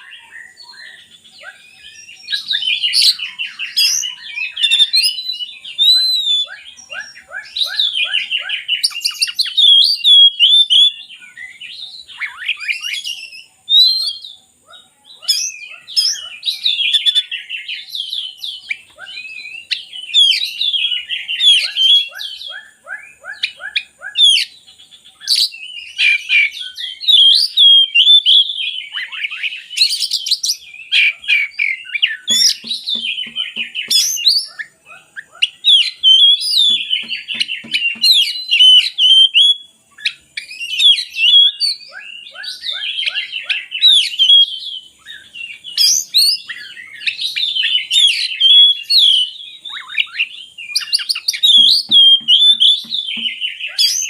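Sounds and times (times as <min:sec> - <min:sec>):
songbird whistles and trills: 0:00.0 - 0:54.0.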